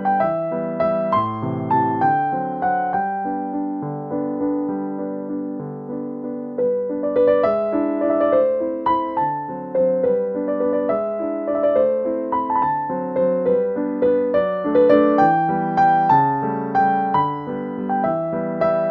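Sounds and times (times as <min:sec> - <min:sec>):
instrumental music melody: 0:00.0 - 0:18.9.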